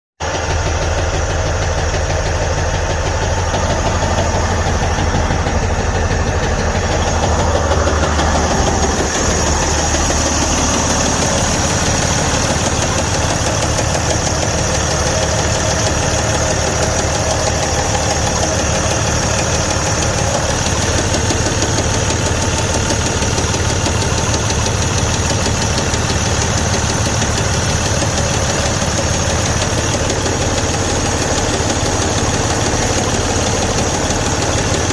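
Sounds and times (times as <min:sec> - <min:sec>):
diesel engine idling: 0:00.2 - 0:34.9
rapid rhythmic engine knock: 0:00.2 - 0:34.9.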